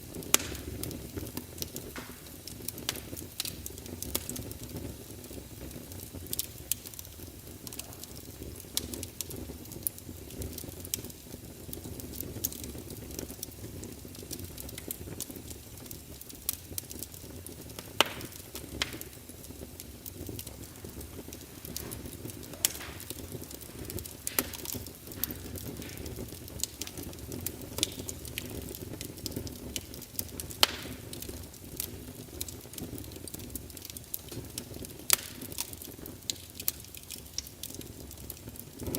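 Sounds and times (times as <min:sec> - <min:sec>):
fire crackling: 0:00.0 - 0:38.9
fire snaps and pops: 0:00.0 - 0:38.9.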